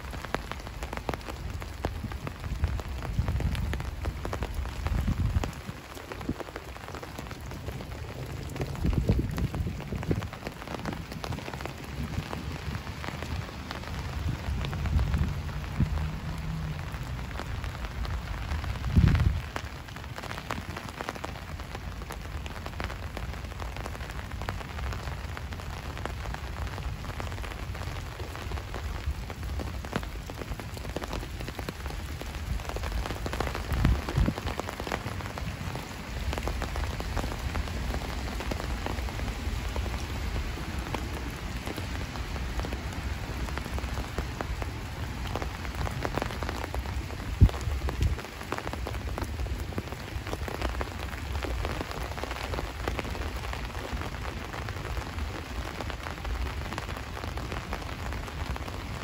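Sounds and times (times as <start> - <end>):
small raindrop ticks: 0.0 - 59.0
steady rain falling: 0.0 - 59.0.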